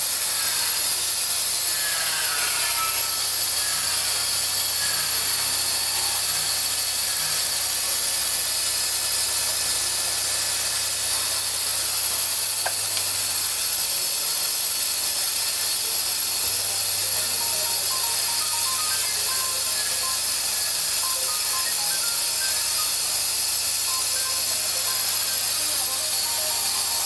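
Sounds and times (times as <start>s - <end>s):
filling machine hissing: 0.0s - 27.0s.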